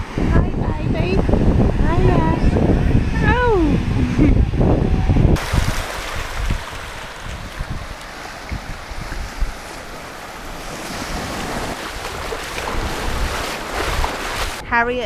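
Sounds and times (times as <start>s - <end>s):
sea surf rushing: 0.0s - 14.6s
wind buffeting microphone: 0.0s - 14.8s.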